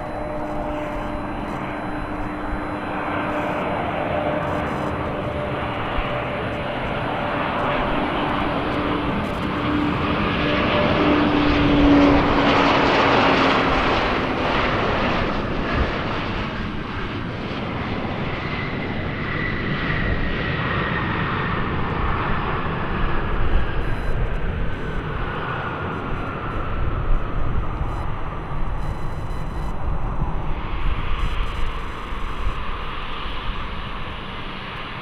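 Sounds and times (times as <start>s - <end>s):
high engine whine falling in pitch: 0.0s - 17.6s, 22.2s - 35.0s
jet airliner engines roaring: 0.0s - 35.0s.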